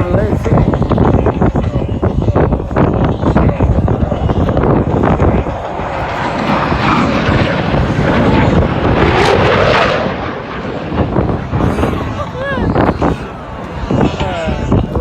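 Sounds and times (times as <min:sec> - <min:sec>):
jet fighter passing low: 0:00.0 - 0:15.0.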